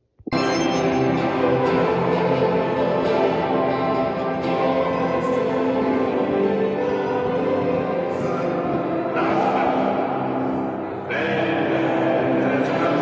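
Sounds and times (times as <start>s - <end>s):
orchestral music: 0.4s - 13.0s.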